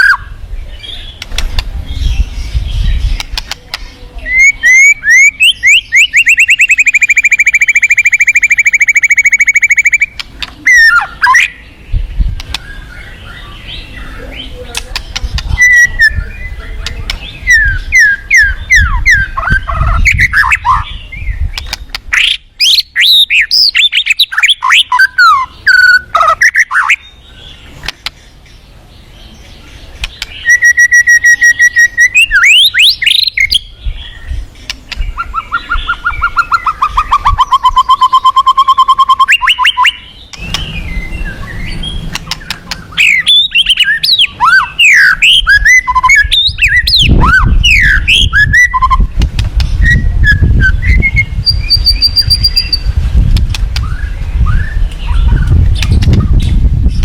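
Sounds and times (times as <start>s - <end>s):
bird singing trills and whistles: 0.0s - 57.0s.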